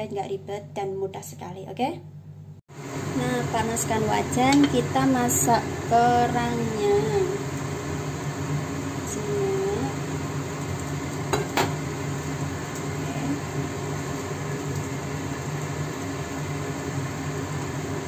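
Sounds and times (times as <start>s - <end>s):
oil sizzling: 2.7s - 18.0s.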